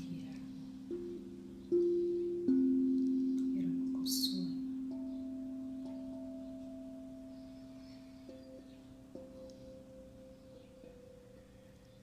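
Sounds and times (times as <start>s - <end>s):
singing bowl tones: 0.0s - 12.0s.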